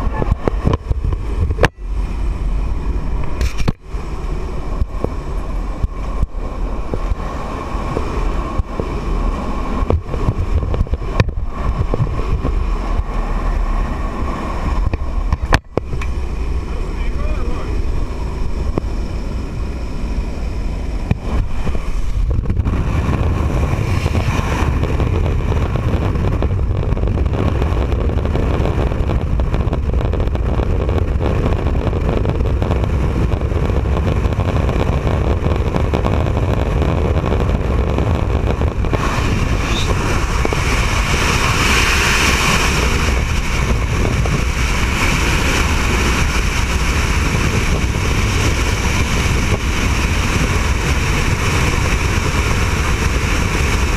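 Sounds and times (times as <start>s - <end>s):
aircraft engine noise: 0.0s - 53.9s
wind buffeting microphone: 0.0s - 53.9s
wind rushing: 0.0s - 53.9s.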